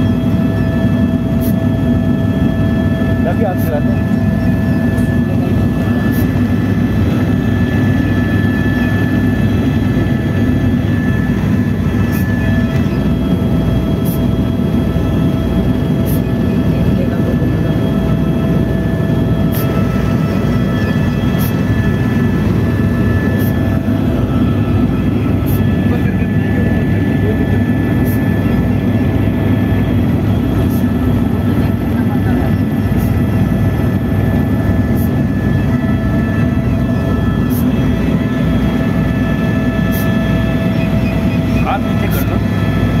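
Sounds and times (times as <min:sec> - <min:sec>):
constant high whine: 0:00.0 - 0:43.0
helicopter rotor and turbine drone: 0:00.0 - 0:43.0.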